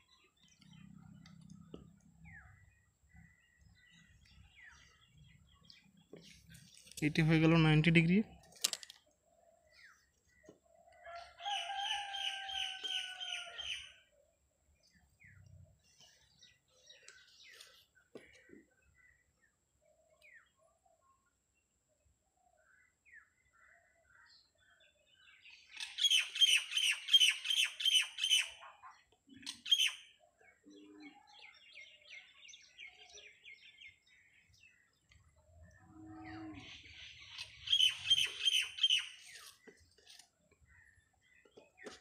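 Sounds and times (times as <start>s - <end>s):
bird chirping: 0.0s - 42.0s.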